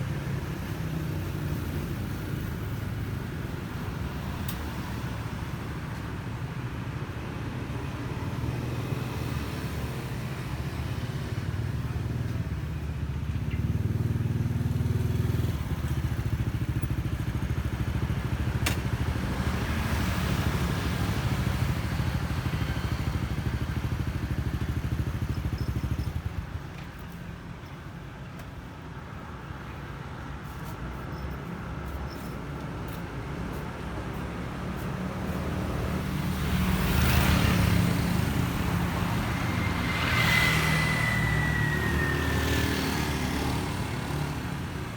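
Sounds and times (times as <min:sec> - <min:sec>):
road and wind noise: 0:00.0 - 0:44.9.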